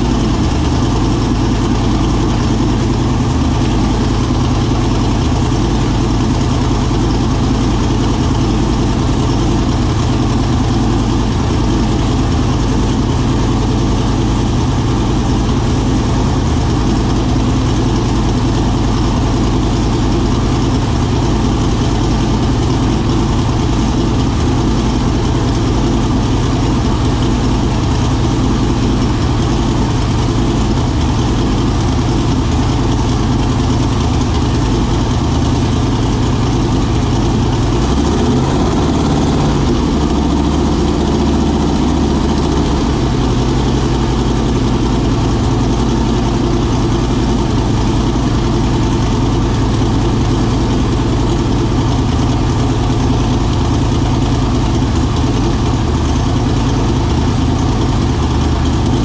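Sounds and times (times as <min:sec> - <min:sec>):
car engine idling loudly: 0:00.0 - 0:59.0.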